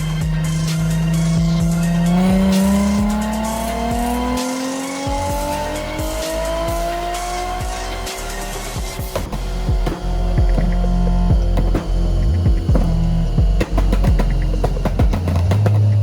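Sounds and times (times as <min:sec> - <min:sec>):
background music with beat: 0:00.0 - 0:16.0
car engine revving on dyno: 0:00.0 - 0:16.0.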